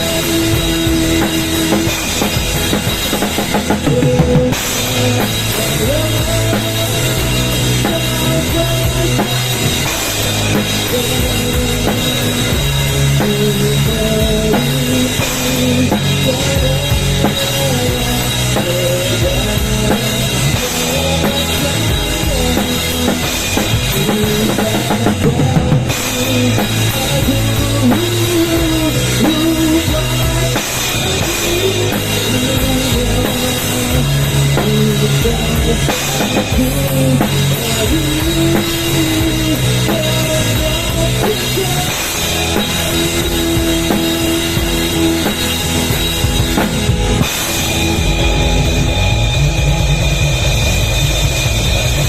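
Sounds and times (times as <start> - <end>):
music with drums and heavy bass: 0.0 - 52.0.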